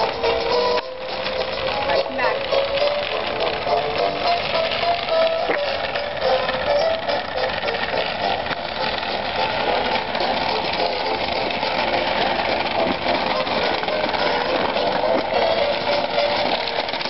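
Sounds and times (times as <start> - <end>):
cans jostling: 0.0 - 17.0
plastic wheels rolling on asphalt: 0.0 - 17.0.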